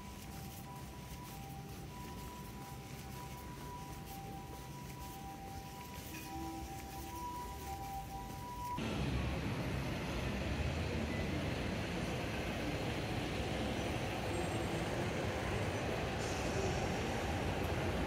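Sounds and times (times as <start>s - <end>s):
hum of buses and cars: 0.0s - 18.0s.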